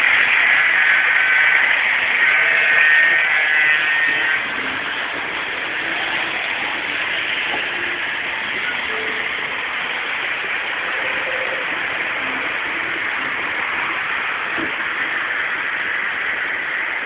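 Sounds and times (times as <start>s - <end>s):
model train cars rolling on track: 0.0s - 17.0s.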